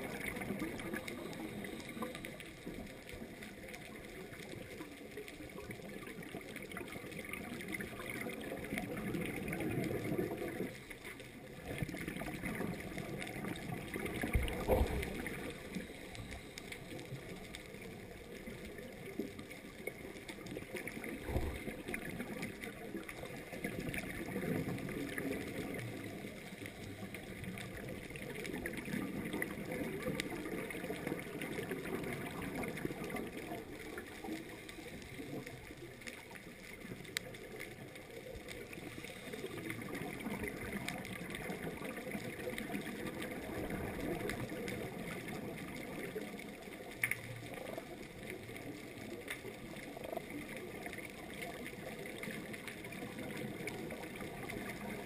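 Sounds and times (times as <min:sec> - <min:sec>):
diver regulator breathing and bubbles: 0:00.0 - 0:55.0
fine crackle: 0:00.0 - 0:55.0.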